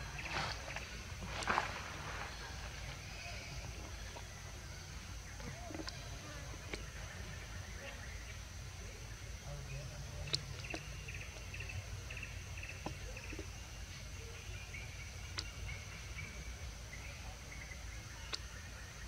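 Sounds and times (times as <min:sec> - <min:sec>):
insect chirping trills: 0:00.0 - 0:19.0.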